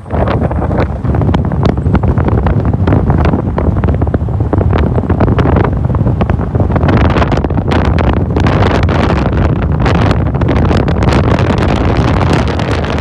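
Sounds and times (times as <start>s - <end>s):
car driving: 0.0s - 13.0s
wind buffeting microphone: 0.0s - 13.0s.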